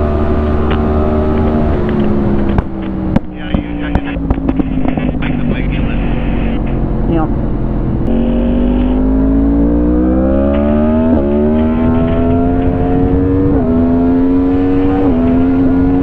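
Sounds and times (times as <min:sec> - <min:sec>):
low wind rumble: 0:00.0 - 0:16.0
motorcycle engine accelerating: 0:00.0 - 0:16.0.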